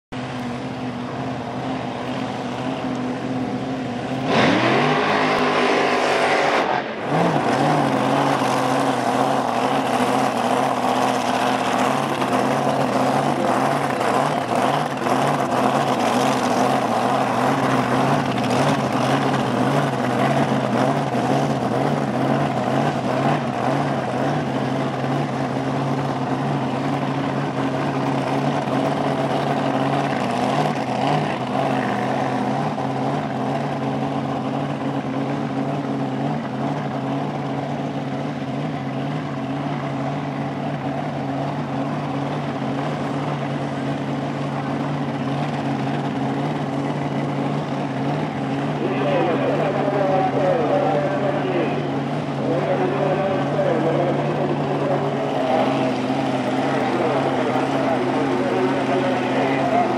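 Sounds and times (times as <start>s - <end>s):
dragster engine idling and revving: 0.1s - 59.9s.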